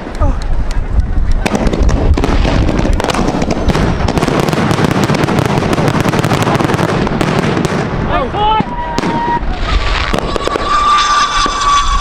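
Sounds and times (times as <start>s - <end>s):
fireworks crackling and banging: 0.0s - 12.0s
deep fireworks booms: 1.3s - 12.0s.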